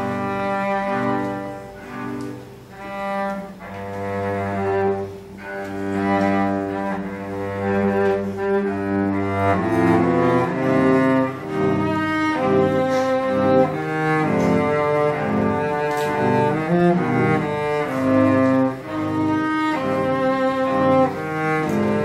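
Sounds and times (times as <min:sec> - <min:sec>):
cellos playing sustained notes: 0:00.0 - 0:22.0.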